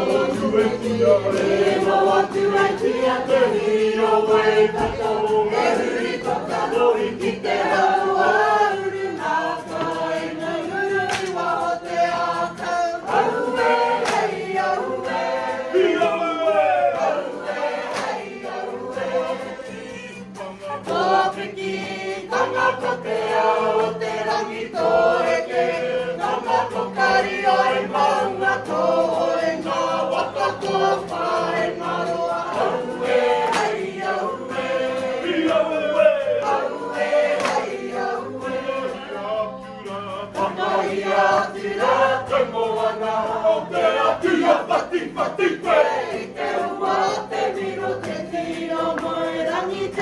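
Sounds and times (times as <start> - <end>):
women singing in unison: 0.0 - 50.0.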